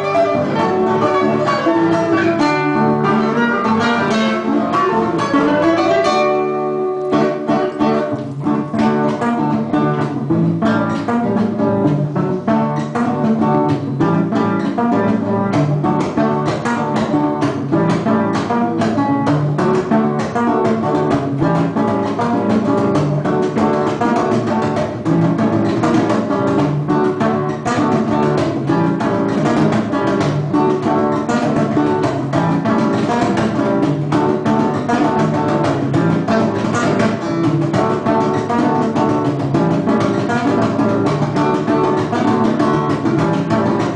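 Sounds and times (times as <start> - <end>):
acoustic guitars playing: 0.0 - 43.9.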